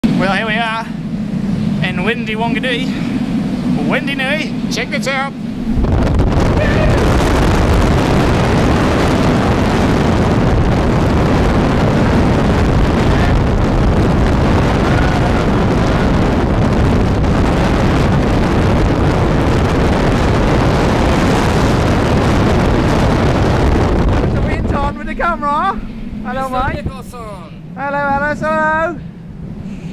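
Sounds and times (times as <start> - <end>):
wind blowing over microphone: 0.0 - 29.9.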